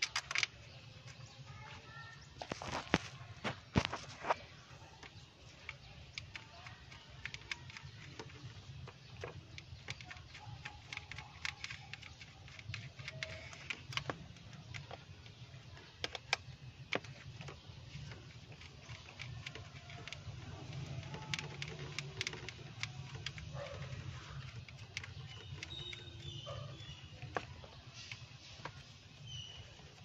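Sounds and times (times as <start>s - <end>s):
light clicks and taps: 2.4s - 30.0s.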